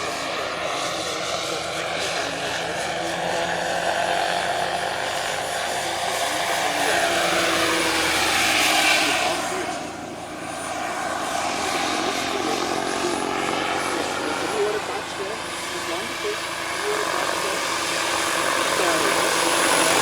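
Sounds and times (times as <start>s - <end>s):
helicopter rotor noise: 0.0s - 20.0s
model helicopter turbine whine: 0.0s - 20.0s.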